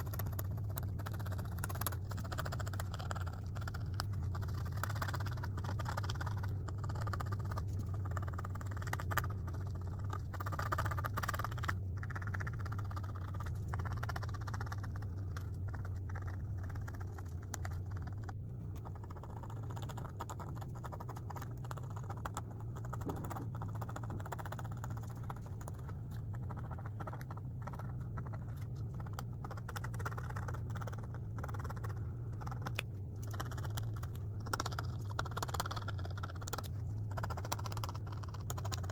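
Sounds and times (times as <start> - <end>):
drawing toy knobs scratching: 0.0 - 38.9
steady low hum: 0.0 - 38.9.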